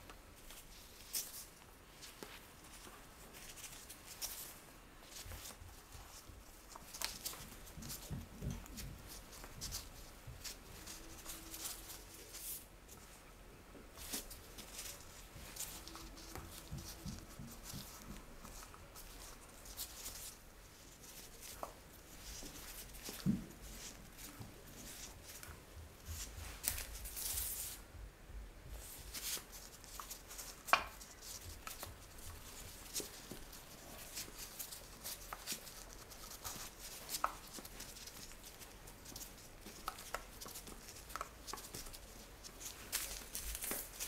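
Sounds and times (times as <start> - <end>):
rustling and crinkling of plastic wrap: 0.0 - 13.3, 13.9 - 27.8, 28.8 - 44.0.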